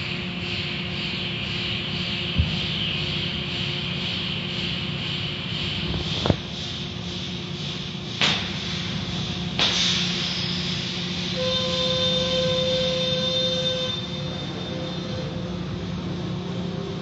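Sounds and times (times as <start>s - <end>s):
car wash machinery and water spray: 0.0s - 17.0s
steady whine: 0.0s - 17.0s.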